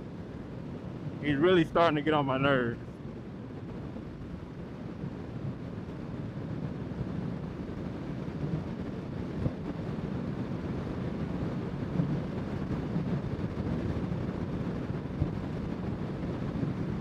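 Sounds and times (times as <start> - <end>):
wind buffeting: 0.0 - 17.0
wind rushing over microphone: 0.0 - 17.0.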